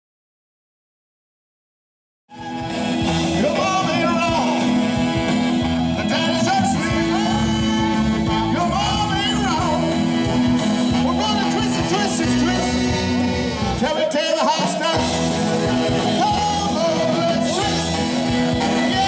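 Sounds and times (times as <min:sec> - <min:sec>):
rock band playing: 0:02.3 - 0:19.0
person singing: 0:02.4 - 0:19.0.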